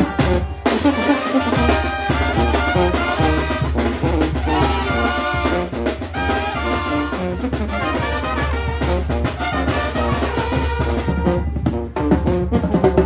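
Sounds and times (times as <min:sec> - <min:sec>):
steady drum beat: 0:00.0 - 0:13.0
trumpets and trombones melody: 0:00.0 - 0:13.0.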